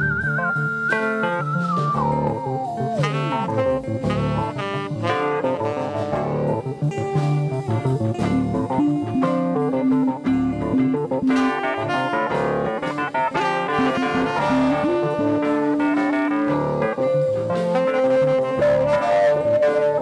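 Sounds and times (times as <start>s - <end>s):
live band playing instrumental: 0.0s - 20.0s.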